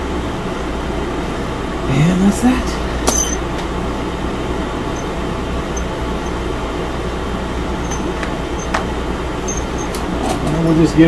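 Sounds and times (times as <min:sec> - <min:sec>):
fan or air conditioner hum: 0:00.0 - 0:11.0.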